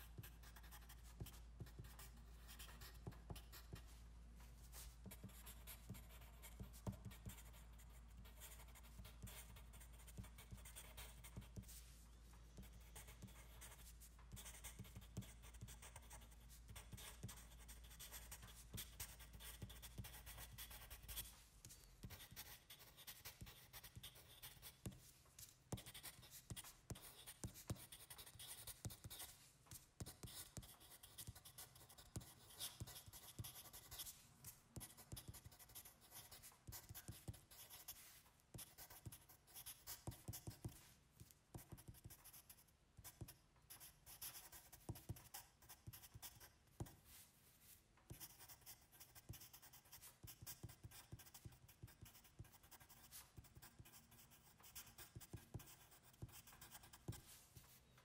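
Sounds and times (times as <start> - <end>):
pen scratching on paper: 0.2 - 3.9, 4.7 - 11.8, 12.6 - 29.4, 30.0 - 40.9, 41.5 - 43.2, 43.8 - 47.2, 48.1 - 57.4.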